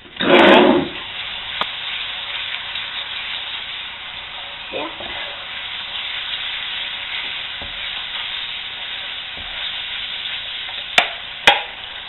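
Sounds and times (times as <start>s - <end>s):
roux sizzling in a frying pan: 0.2s - 12.0s.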